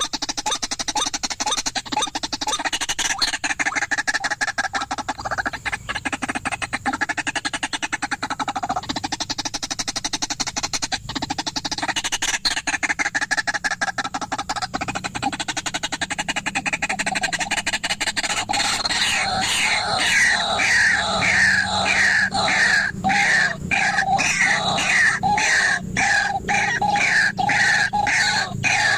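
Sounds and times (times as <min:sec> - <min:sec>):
waterhen calling: 0:00.0 - 0:28.9.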